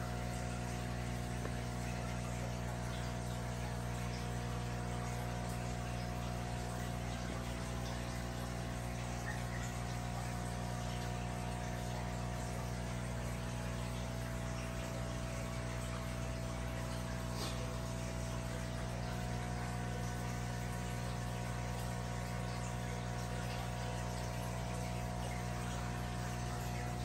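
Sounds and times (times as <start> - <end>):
aquarium pump humming: 0.0 - 27.0.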